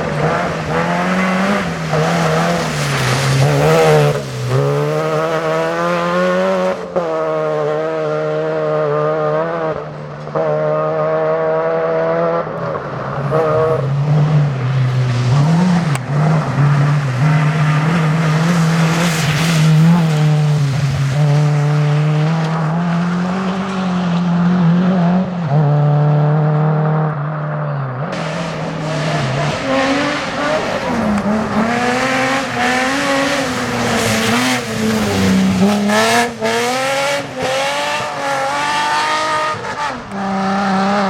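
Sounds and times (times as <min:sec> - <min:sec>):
car engine at high revs: 0:00.0 - 0:41.0.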